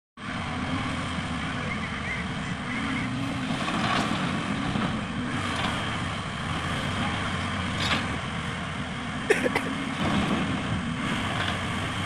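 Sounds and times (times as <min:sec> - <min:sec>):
excavator diesel engine running: 0:00.2 - 0:12.0.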